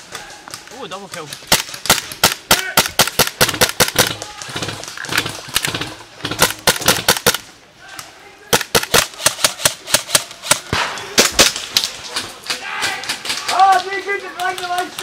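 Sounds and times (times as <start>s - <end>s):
airsoft guns firing: 1.1s - 7.5s, 8.5s - 15.0s.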